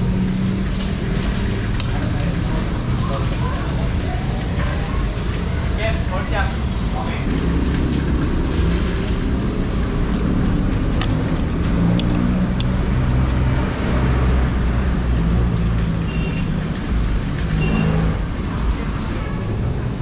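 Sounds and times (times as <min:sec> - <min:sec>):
road traffic: 0:00.0 - 0:20.0
vehicle engine rumble: 0:00.0 - 0:20.0.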